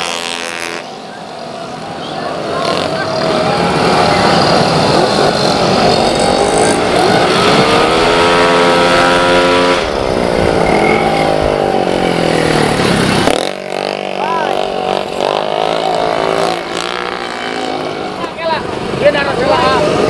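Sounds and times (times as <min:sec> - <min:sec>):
scooter engines whining: 0:00.0 - 0:20.0.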